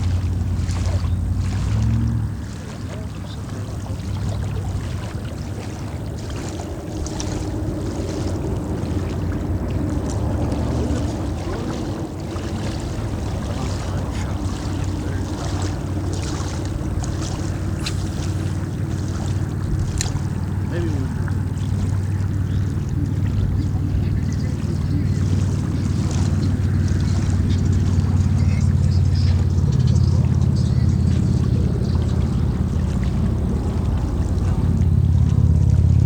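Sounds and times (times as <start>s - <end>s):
rushing water: 0.0s - 36.0s
wind buffeting microphone: 0.0s - 36.0s
low hum: 7.0s - 36.0s.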